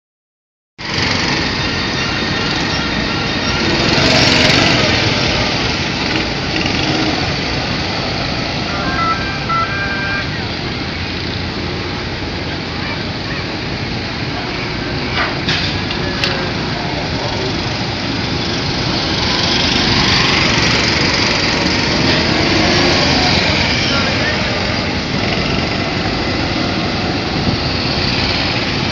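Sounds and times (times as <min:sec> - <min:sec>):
go-kart engines running: 0:00.8 - 0:28.9.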